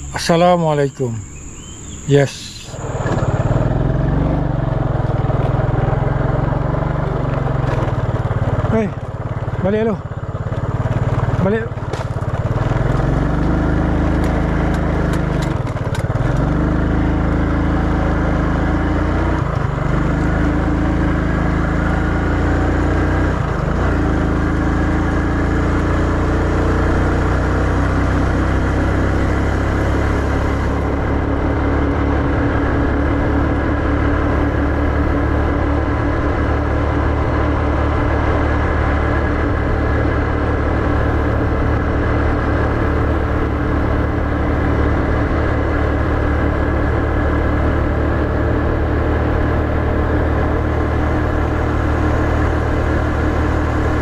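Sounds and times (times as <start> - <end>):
motorcycle engine changing gears: 0.9 - 54.0.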